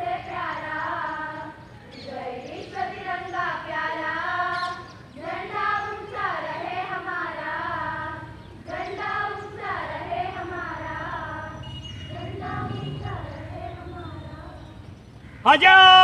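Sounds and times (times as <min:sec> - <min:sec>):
group singing in unison: 0:00.0 - 0:14.9.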